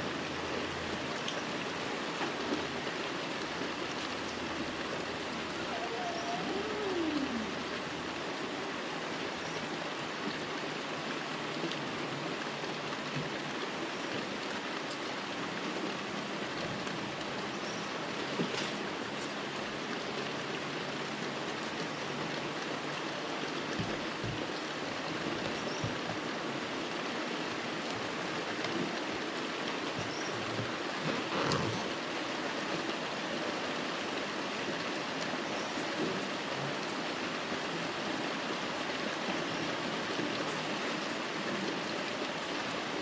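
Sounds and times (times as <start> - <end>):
rain falling on trees: 0.0 - 43.0.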